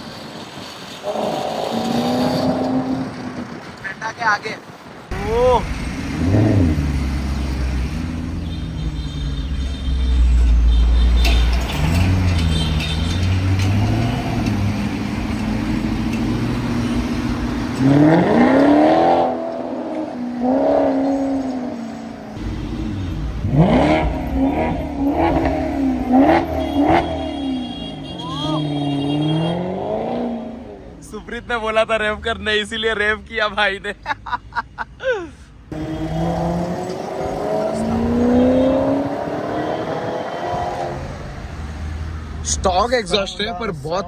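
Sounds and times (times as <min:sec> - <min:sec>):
car engine revving: 0:00.9 - 0:03.8, 0:05.1 - 0:30.9, 0:35.7 - 0:43.4.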